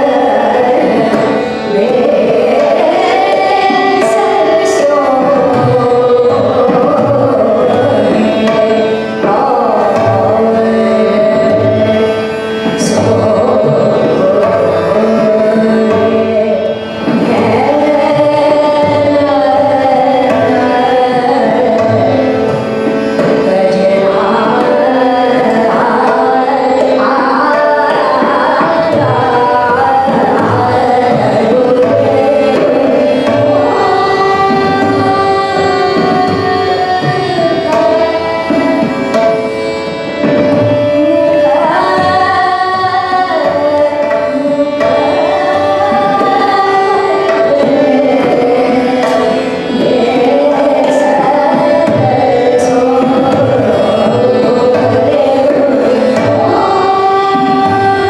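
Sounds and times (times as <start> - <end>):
tabla rhythm: 0.0 - 58.0
woman singing: 0.0 - 58.0.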